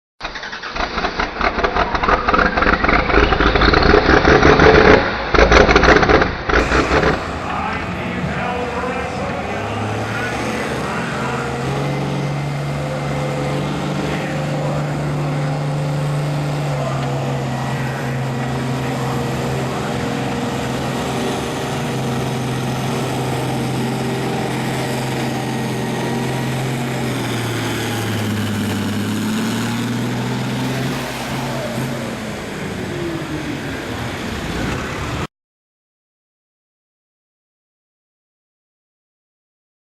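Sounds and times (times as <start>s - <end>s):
tractor engine working under load: 0.2s - 35.3s.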